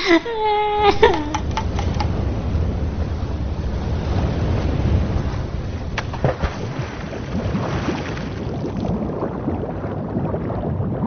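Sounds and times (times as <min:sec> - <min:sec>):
sea water sloshing: 0:00.9 - 0:10.6
water splash: 0:01.3 - 0:10.5.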